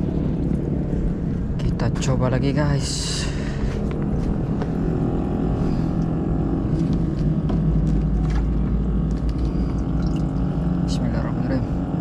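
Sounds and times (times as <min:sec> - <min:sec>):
motor engine droning: 0:00.0 - 0:12.0.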